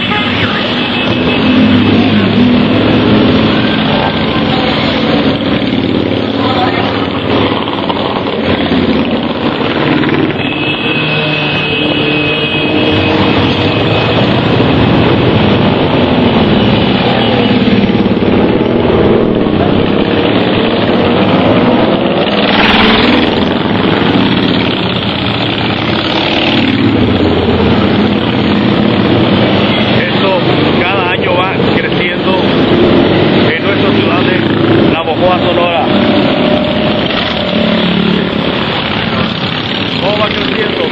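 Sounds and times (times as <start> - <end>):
motorcycles riding past: 0.0 - 40.9.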